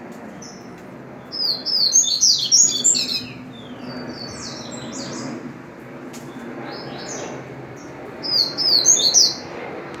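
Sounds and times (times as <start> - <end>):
bird singing rapid gliding notes: 0.3 - 5.5, 6.2 - 9.5.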